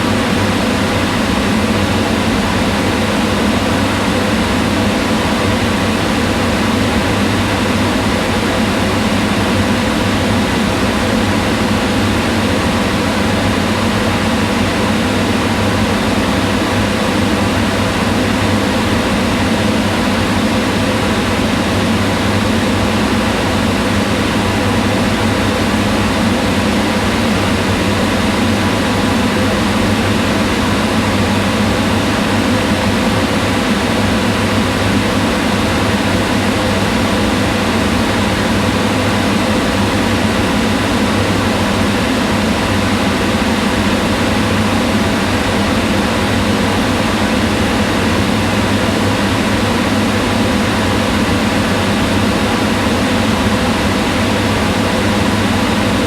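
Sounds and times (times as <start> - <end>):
range hood fan whirring: 0.0 - 56.0.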